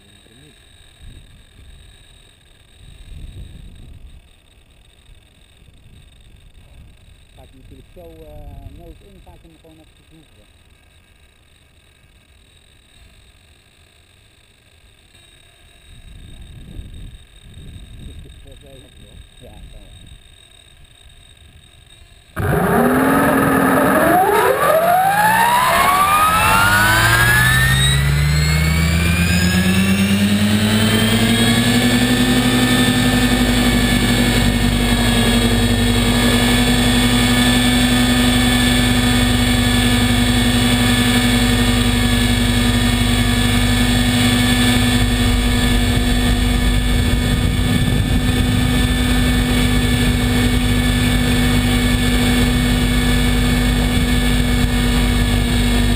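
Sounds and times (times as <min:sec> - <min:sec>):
helicopter motor whine rising: 0:00.0 - 0:55.9.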